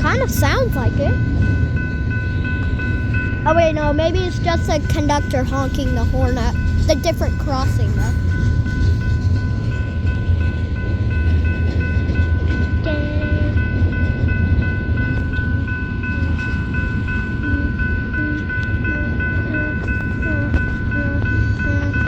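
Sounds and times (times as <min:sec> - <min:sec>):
crossing warning bell ringing: 0:00.0 - 0:22.0
train rumbling: 0:00.0 - 0:22.0.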